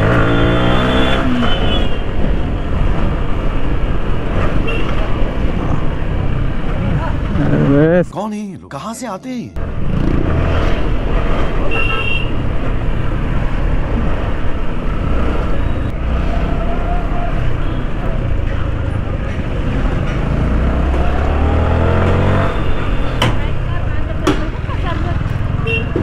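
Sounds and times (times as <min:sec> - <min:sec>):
road and traffic noise: 0:00.0 - 0:26.0.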